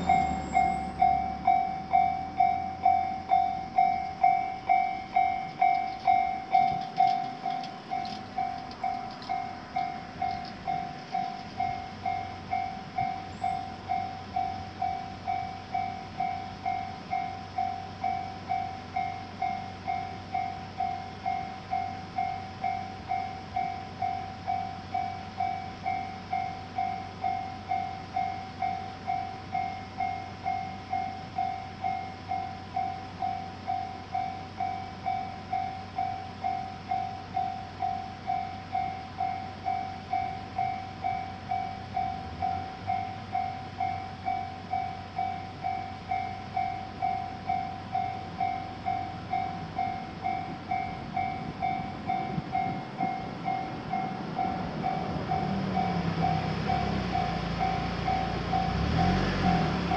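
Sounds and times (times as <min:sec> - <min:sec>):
level crossing warning bell: 0:00.0 - 0:59.9
train rumble: 0:00.0 - 0:59.9.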